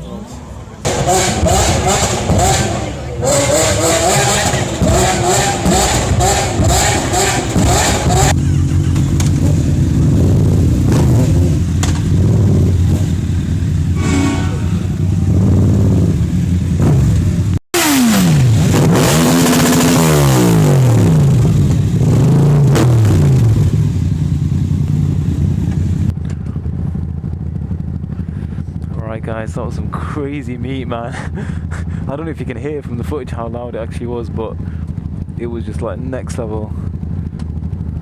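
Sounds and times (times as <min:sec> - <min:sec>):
car engines revving and idling: 0:00.0 - 0:38.0.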